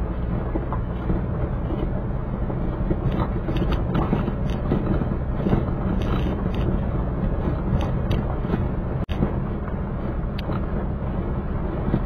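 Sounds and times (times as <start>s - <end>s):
car rumbling on gravel road: 0.0s - 12.0s
pebbles ticking under tyres: 0.6s - 10.7s.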